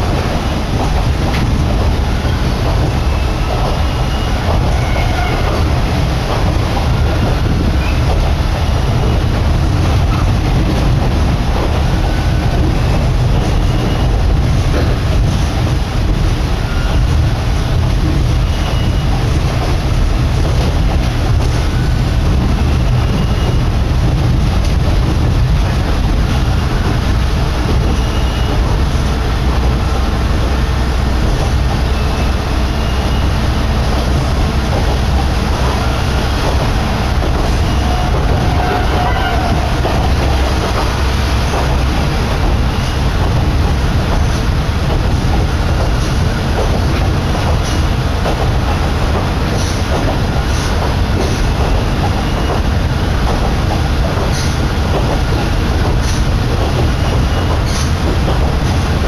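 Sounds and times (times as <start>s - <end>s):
train wheels and engine rumbling: 0.0s - 59.0s
wind buffeting microphone: 0.0s - 59.0s.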